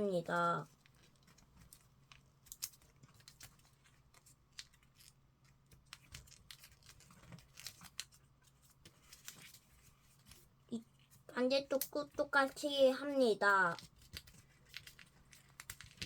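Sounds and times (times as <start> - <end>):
paper rustling while folded: 0.4 - 16.0.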